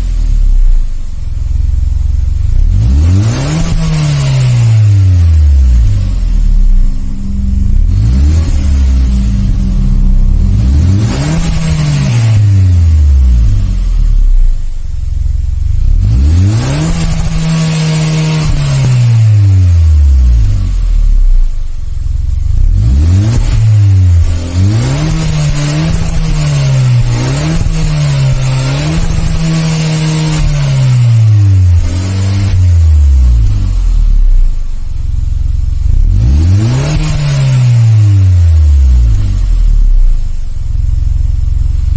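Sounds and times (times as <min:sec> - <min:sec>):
car exhaust revving: 0:00.0 - 0:41.9.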